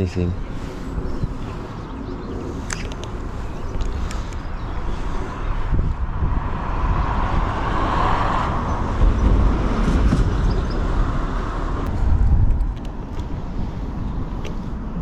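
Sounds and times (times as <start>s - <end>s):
road vehicle passing: 0.0s - 15.0s
wind buffeting microphone: 0.0s - 15.0s.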